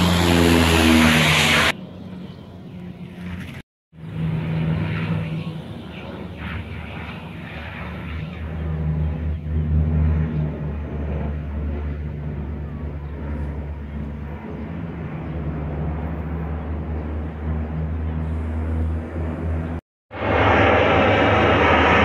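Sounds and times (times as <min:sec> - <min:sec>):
propeller engines droning: 0:00.0 - 0:22.0.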